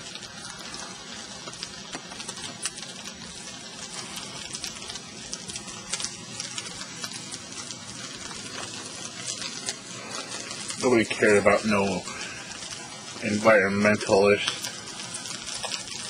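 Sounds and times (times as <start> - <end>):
dry leaves burning and crackling: 0.0 - 16.0.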